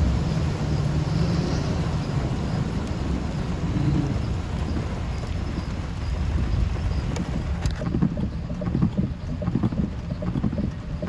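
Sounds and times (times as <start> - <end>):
vehicles rumbling through water: 0.0 - 11.0
water sloshing: 0.0 - 11.0
wind noise on microphone: 0.0 - 11.0.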